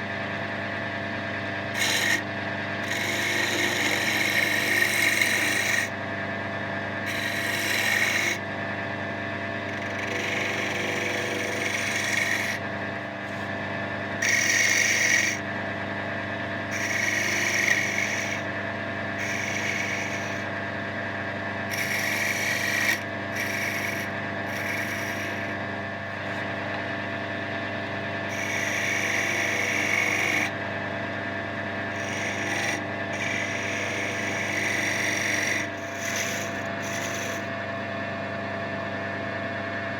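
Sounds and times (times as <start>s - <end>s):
wood lathe humming: 0.0s - 37.8s
tool scraping spinning wood: 1.2s - 6.0s, 7.0s - 8.4s, 9.5s - 30.7s, 31.8s - 37.9s.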